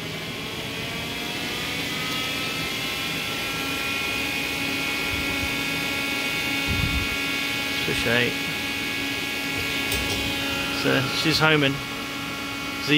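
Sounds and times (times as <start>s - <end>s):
electric machine whine: 0.0s - 12.9s.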